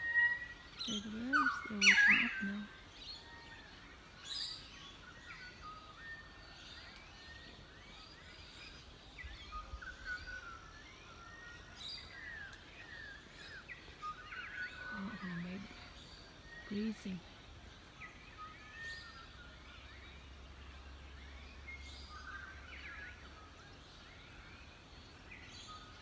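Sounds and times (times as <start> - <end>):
birds chirping and whistling: 0.0 - 17.2, 17.8 - 26.0.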